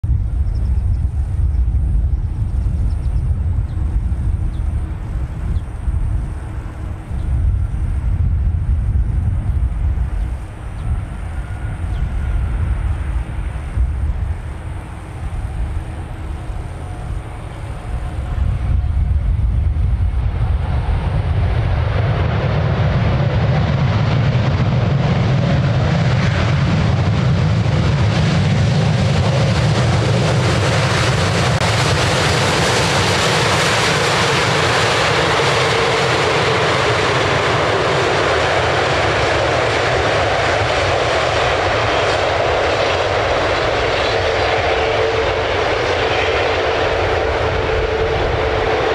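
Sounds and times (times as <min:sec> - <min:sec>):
jet engines roaring: 0:00.1 - 0:48.9.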